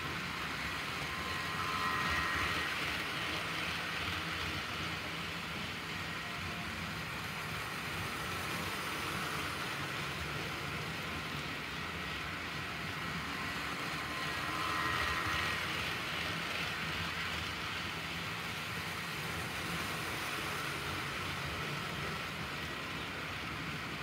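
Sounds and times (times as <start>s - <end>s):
model trains running on track: 0.0s - 24.0s.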